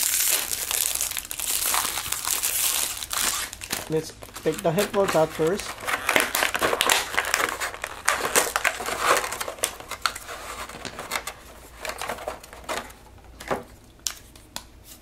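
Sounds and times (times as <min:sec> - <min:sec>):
plastic packaging crackling: 0:00.0 - 0:14.2.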